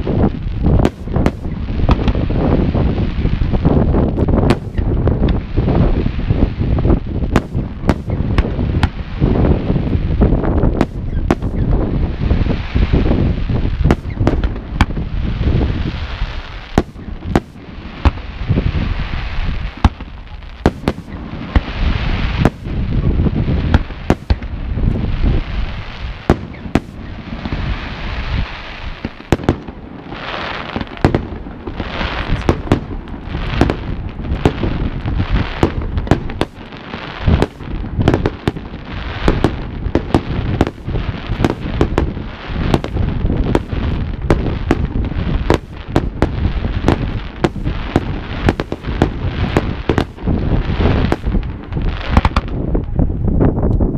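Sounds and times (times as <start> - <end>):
fireworks bursting with bangs: 0.0 - 53.2
fireworks crackling hiss: 0.0 - 53.3.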